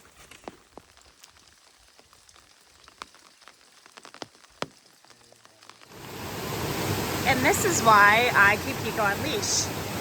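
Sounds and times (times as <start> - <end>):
rain hiss: 0.0 - 10.0
raindrops tapping: 0.1 - 9.7.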